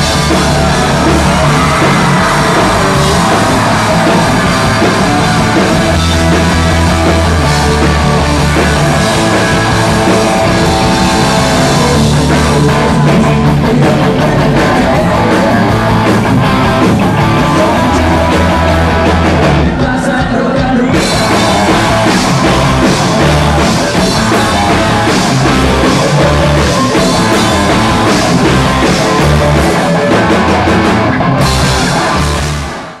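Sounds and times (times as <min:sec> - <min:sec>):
bass guitar: 0:00.0 - 0:33.0
drum kit: 0:00.0 - 0:33.0
electric guitars: 0:00.0 - 0:33.0.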